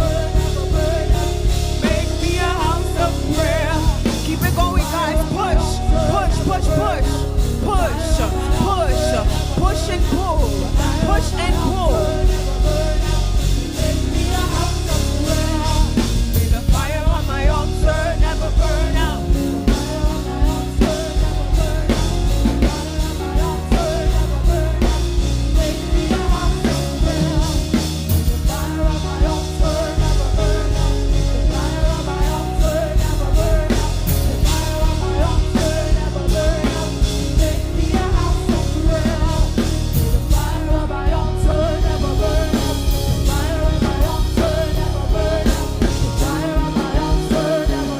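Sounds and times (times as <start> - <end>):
band playing worship music: 0.0 - 47.9
person singing: 0.0 - 47.9.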